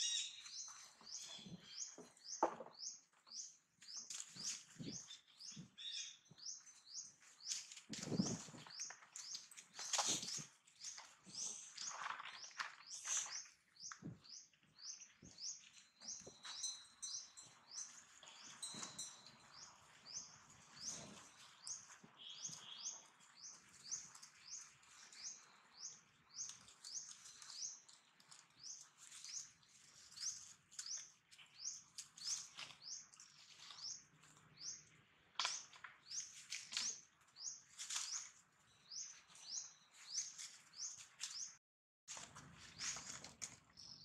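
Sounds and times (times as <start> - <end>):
bird chirping: 0.0 - 41.6
rustling in dry leaves: 3.8 - 13.6, 16.3 - 34.9, 36.0 - 44.0.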